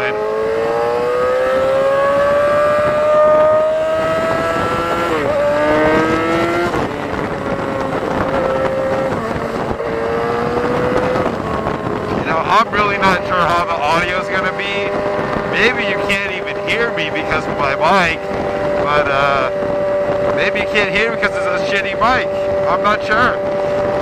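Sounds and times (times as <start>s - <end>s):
motorcycle accelerating through gears: 0.0s - 24.0s
wind rushing over microphone: 0.0s - 24.0s.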